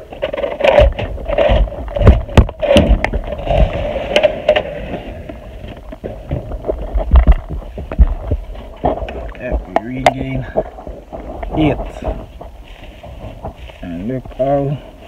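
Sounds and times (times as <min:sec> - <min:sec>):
wooden box scraping: 0:00.0 - 0:14.6
sharp wooden knocks: 0:00.2 - 0:13.7.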